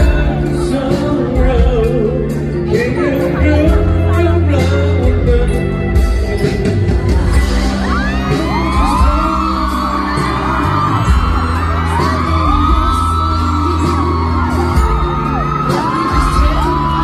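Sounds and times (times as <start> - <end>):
drums: 0.0 - 17.0
person singing: 0.0 - 17.0.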